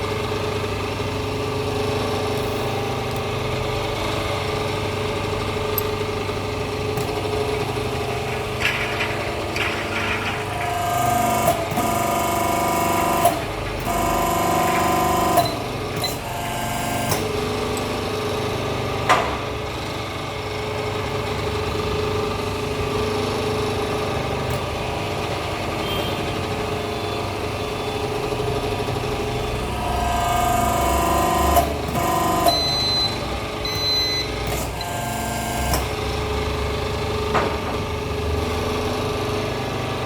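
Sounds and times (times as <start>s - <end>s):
hydraulic pump whine: 0.0s - 21.6s, 22.3s - 40.0s.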